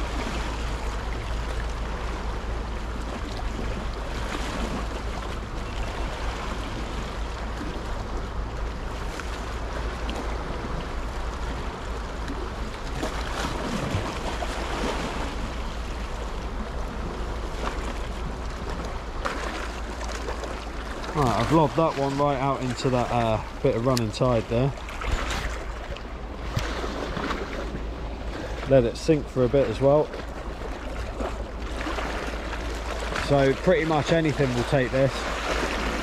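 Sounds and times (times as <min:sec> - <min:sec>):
sea surging against rocks: 0:00.0 - 0:36.0.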